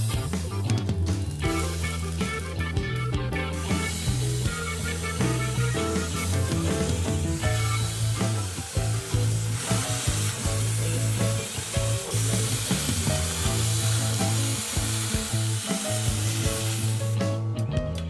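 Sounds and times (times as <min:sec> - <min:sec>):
arc welding crackling: 0:00.0 - 0:17.5
background music with bass line: 0:00.0 - 0:18.0.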